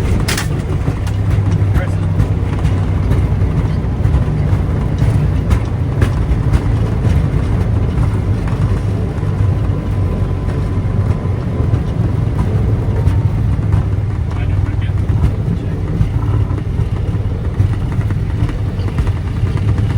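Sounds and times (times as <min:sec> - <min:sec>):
airplane cockpit low rumble: 0:00.0 - 0:19.9
light rattles: 0:00.0 - 0:19.9.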